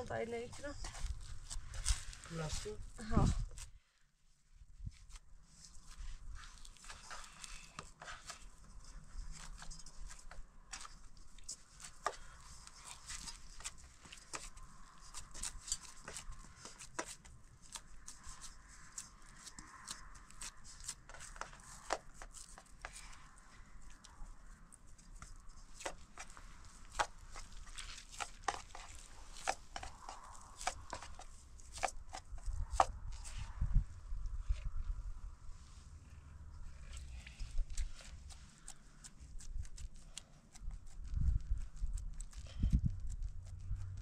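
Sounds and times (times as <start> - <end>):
crackling rustles: 0.0 - 4.0, 4.8 - 44.0.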